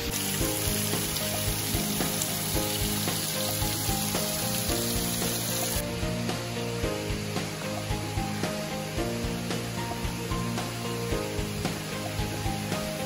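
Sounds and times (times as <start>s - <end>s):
background music of sustained notes: 0.0s - 13.0s
water splashing over rock ledges: 0.0s - 13.0s.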